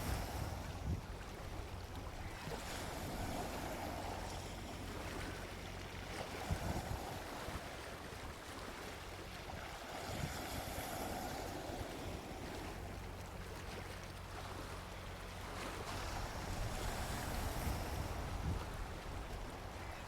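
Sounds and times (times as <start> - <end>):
sea waves washing onto beach: 0.0 - 20.0.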